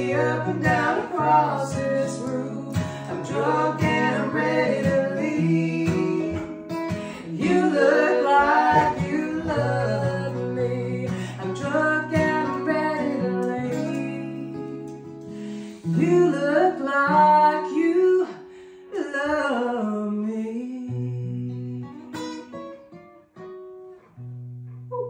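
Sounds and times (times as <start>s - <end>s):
woman singing country song: 0.0s - 22.6s
strummed acoustic guitars: 0.0s - 25.0s.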